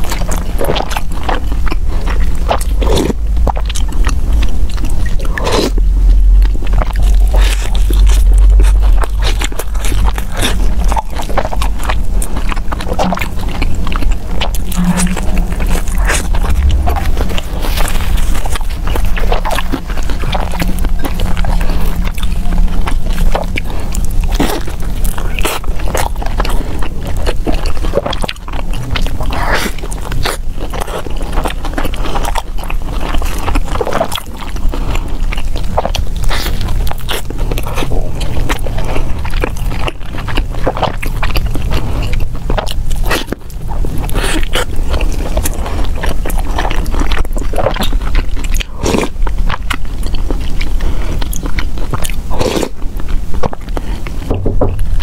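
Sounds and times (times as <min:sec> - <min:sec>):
biting and chewing: 0:00.0 - 0:55.0
steady low hum: 0:00.0 - 0:55.0.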